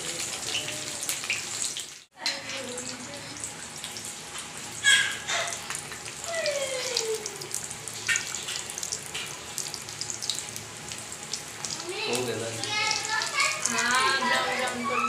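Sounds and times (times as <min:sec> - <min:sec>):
deep-frying sizzle and crackles: 0:00.0 - 0:15.0.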